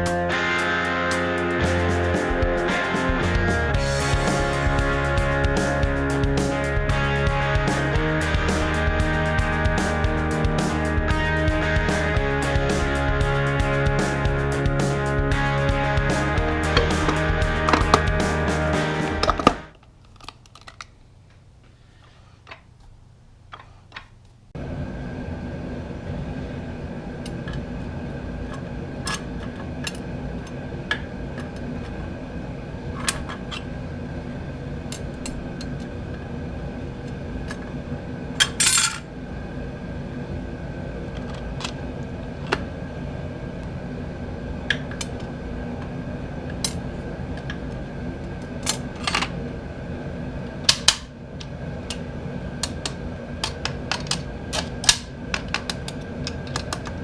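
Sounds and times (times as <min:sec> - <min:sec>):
steady hum: 0:00.0 - 0:19.8, 0:21.0 - 0:57.0.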